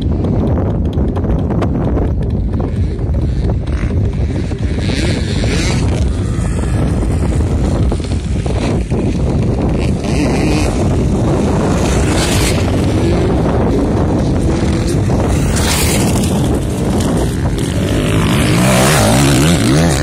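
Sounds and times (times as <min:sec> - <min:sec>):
motocross bike engines: 0:00.0 - 0:20.0
wind buffeting microphone: 0:00.0 - 0:20.0.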